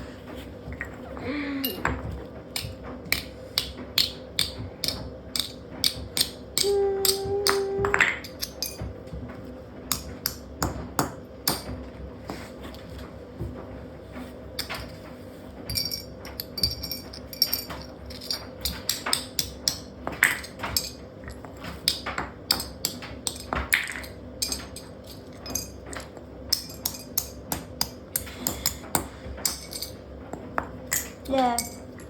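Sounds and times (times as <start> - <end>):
washing machine hum: 0.0 - 32.0.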